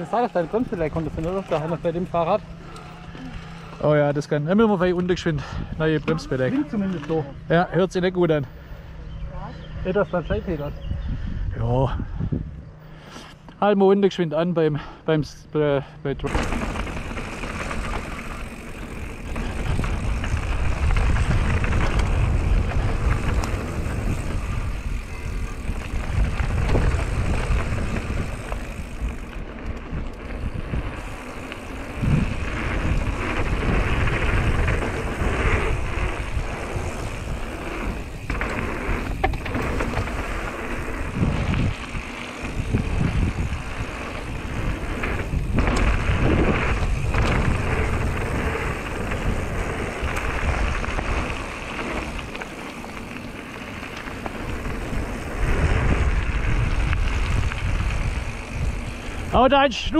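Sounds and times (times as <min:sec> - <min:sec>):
bike tyres crunching on gravel: 0:00.0 - 0:08.5, 0:16.2 - 0:59.9
wind buffeting microphone: 0:03.1 - 0:07.6, 0:08.4 - 0:13.0, 0:16.4 - 0:59.9.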